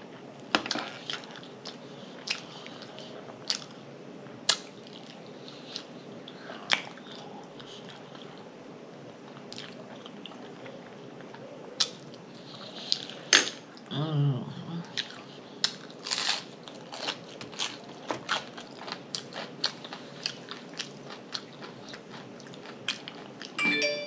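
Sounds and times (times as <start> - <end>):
chewing with mouth clicks: 0.7 - 3.8, 4.4 - 8.4, 9.3 - 13.2, 14.9 - 23.6.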